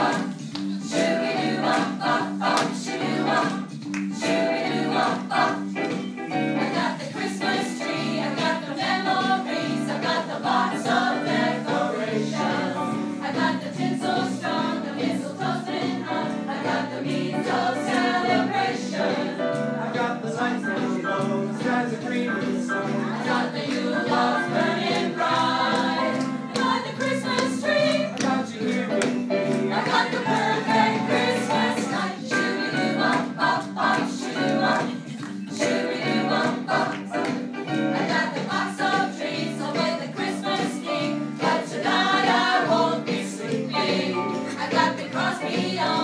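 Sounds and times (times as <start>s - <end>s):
group of voices singing: 0.0s - 46.0s.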